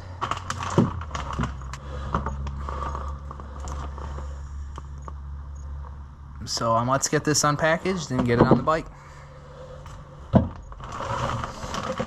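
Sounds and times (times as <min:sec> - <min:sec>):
parts clicking and scraping: 0:00.0 - 0:12.0
steady low hum: 0:00.0 - 0:12.0.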